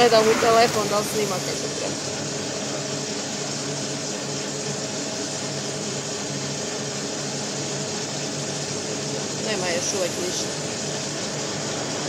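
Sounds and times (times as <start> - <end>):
electric motors humming: 0.0 - 12.0.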